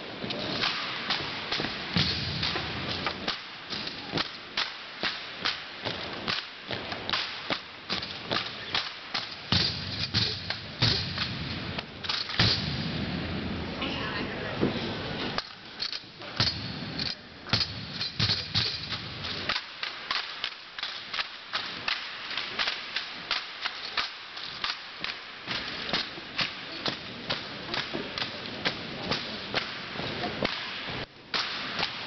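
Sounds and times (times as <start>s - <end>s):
drill rifles slapped in hands: 0.6s - 12.7s, 15.4s - 32.0s.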